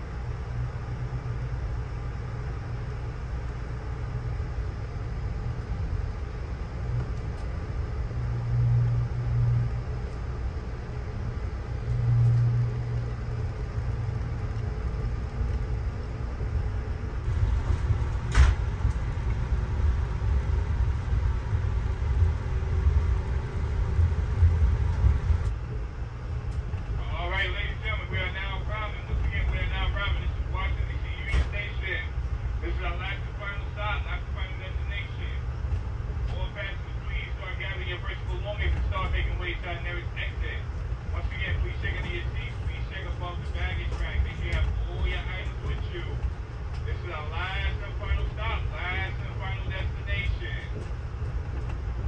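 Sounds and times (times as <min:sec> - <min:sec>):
train coach rumbling on track: 0:00.0 - 0:52.0.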